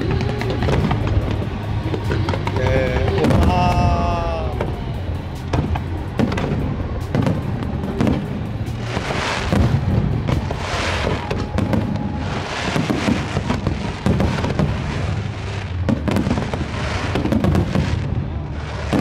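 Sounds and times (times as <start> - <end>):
firework bangs and crackling: 0.0 - 19.0
firework hissing: 0.0 - 19.0.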